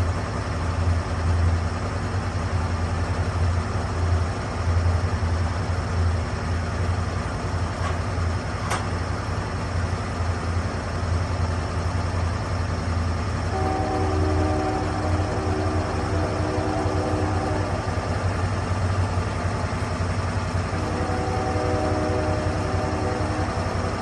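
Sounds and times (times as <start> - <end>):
sawmill engine droning: 0.0 - 24.0.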